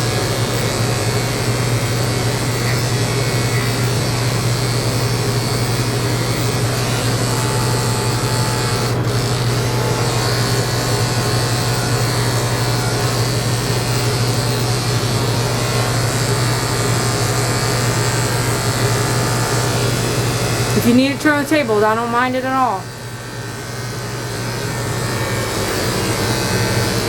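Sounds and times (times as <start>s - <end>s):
electric clippers humming: 0.0s - 27.0s.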